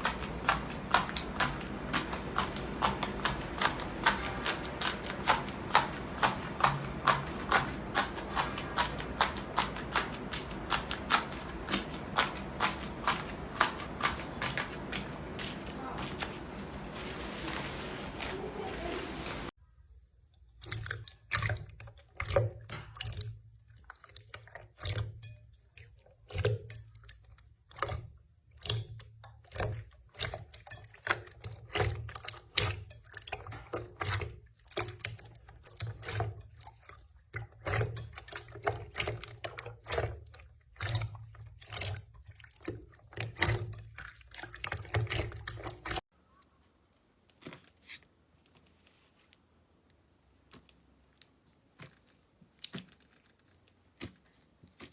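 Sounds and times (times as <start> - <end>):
slime squelching and popping: 0.0 - 19.5, 20.6 - 46.0, 50.3 - 54.9.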